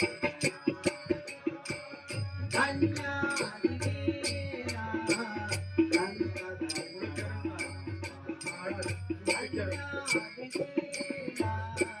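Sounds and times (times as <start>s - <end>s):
sharp percussion strikes: 0.0s - 12.0s.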